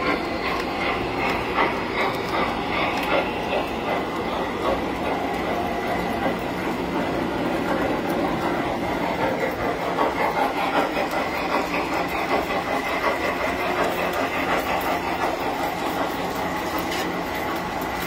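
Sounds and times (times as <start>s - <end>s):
model trains rumbling on track: 0.0s - 18.0s
wheels clicking over rail joints: 0.0s - 18.0s.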